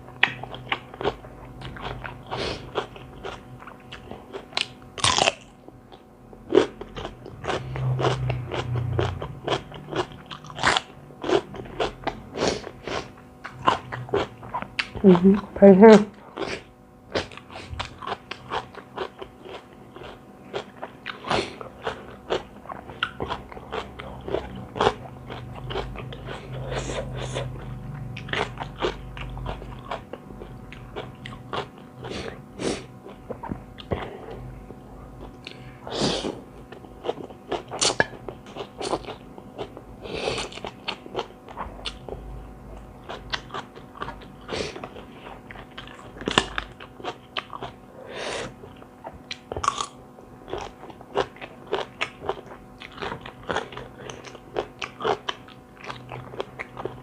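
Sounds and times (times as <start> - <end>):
person chewing crunchy food: 0.0 - 15.5, 16.2 - 57.0.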